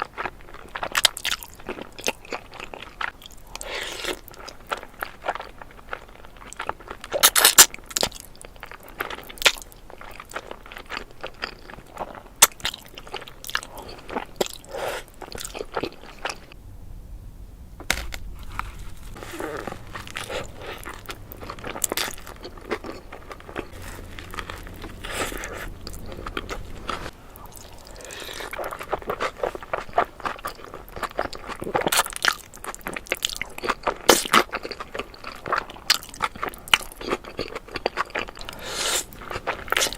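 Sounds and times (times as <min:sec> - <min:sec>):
crunchy bites: 0:00.0 - 0:16.6, 0:17.8 - 0:39.9
wet chewing and smacking: 0:00.0 - 0:16.6, 0:17.9 - 0:39.9.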